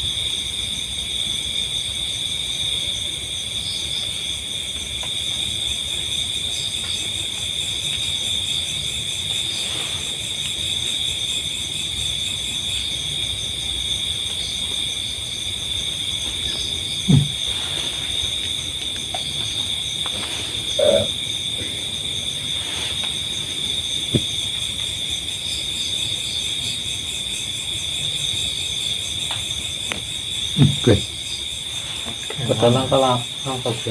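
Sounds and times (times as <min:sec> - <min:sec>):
night insects trilling: 0:00.0 - 0:33.9.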